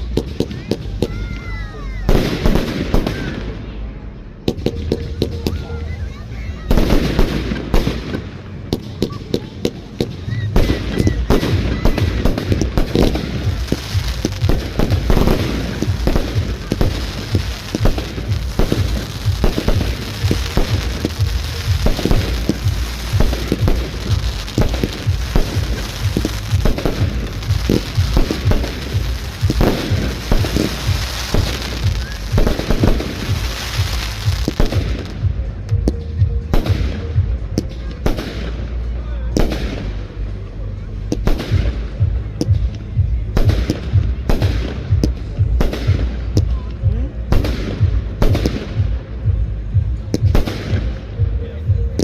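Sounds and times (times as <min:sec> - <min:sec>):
fireworks bangs: 0:00.0 - 0:52.0
fireworks crackling: 0:00.0 - 0:52.0
low booms: 0:02.0 - 0:52.0.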